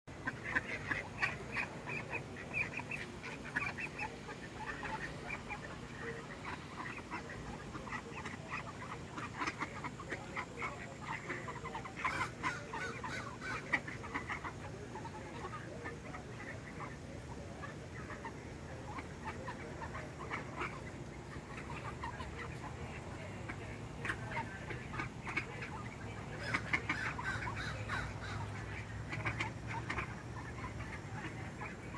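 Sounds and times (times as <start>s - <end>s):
ducks quacking: 0.1s - 31.9s.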